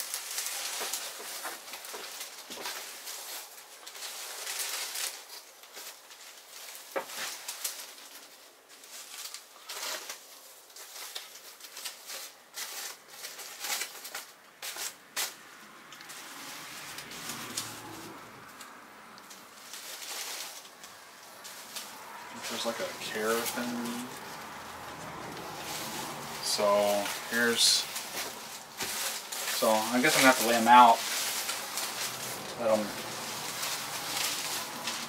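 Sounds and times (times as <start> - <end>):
foam feathers rustling: 0.0 - 35.0
plastic wrap crinkling: 0.0 - 35.0.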